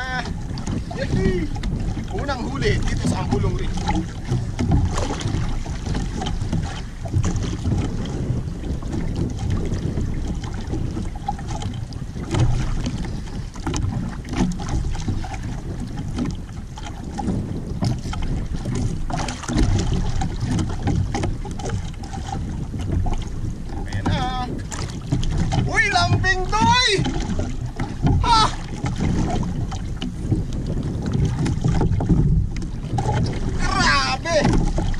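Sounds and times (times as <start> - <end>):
water sloshing against hull: 0.0 - 34.9
wind buffeting microphone: 0.0 - 34.9.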